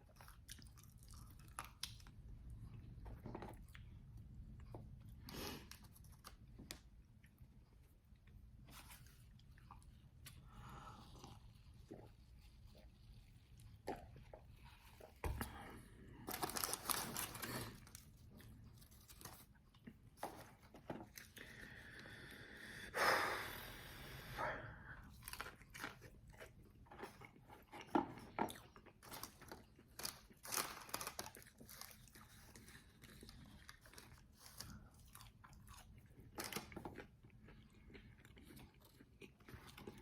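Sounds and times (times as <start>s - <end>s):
crunching and chewing: 0.0s - 21.8s, 25.0s - 40.0s.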